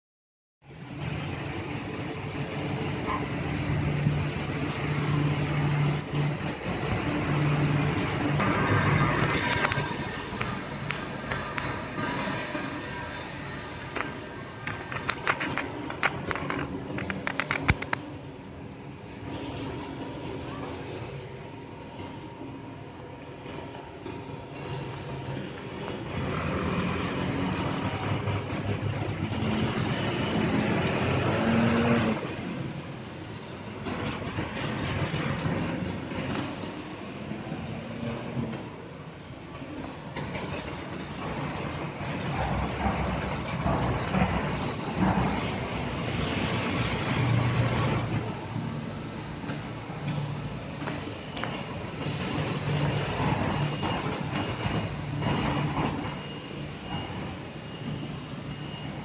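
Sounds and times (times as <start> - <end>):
metro train electric hum: 0.6 - 59.0
road traffic going by: 0.6 - 59.0
train rolling noise: 0.6 - 59.0.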